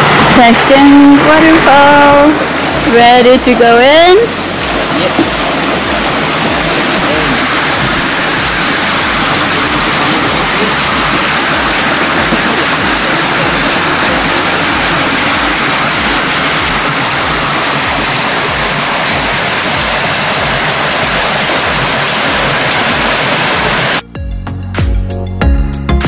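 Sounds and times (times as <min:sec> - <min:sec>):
waterfall rushing into pool: 0:00.0 - 0:24.0.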